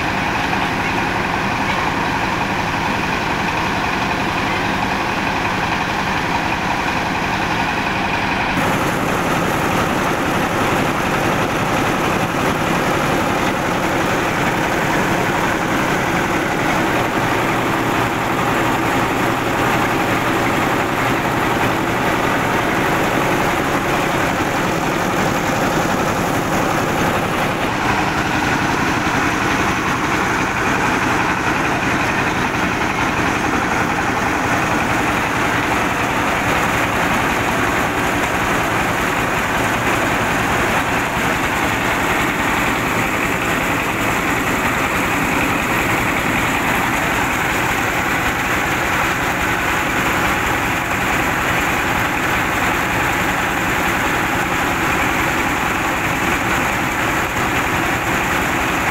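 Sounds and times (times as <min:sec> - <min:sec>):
diesel engine running: 0:00.0 - 0:58.9
rice huller milling: 0:00.0 - 0:58.9.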